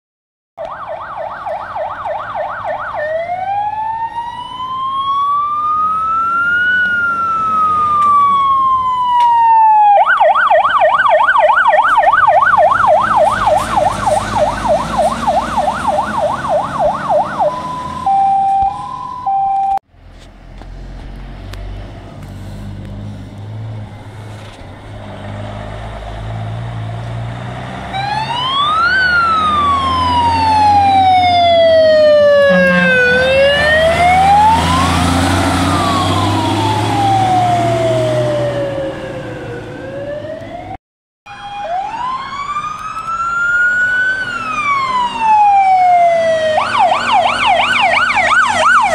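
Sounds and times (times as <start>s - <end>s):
fire engine siren wailing: 0.6s - 19.8s, 20.9s - 48.9s
truck engine rumbling: 0.8s - 48.9s.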